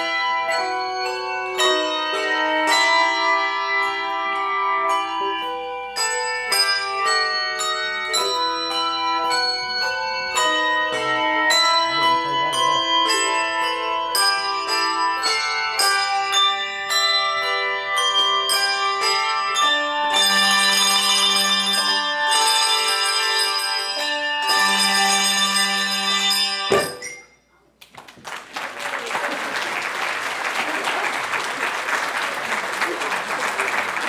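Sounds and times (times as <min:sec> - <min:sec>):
handbell choir ringing: 0:00.0 - 0:27.5.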